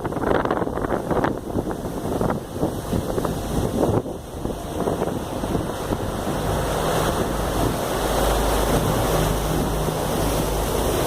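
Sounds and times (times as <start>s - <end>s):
ferry engine hum: 0.0s - 11.0s
rushing water: 0.0s - 11.0s
wind buffeting microphone: 0.0s - 11.0s.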